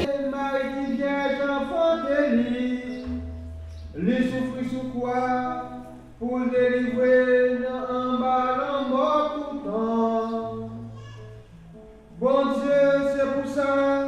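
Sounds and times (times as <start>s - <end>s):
person singing liturgical chant: 0.0s - 3.2s, 4.0s - 11.1s, 12.2s - 14.0s.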